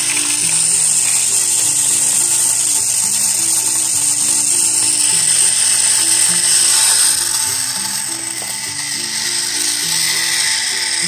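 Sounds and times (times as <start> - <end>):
background music: 0.0 - 11.0
toy train motor whining: 0.0 - 11.0.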